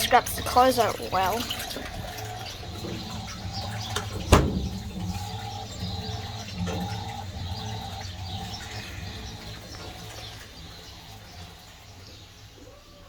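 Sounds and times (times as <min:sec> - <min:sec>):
water sloshing in washing machine: 0:00.0 - 0:12.8
washing machine motor hum: 0:00.0 - 0:13.0.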